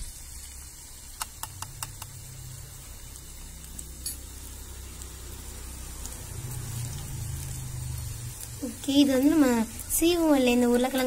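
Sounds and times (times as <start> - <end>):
potato slices sizzling in oil: 0.0 - 11.0.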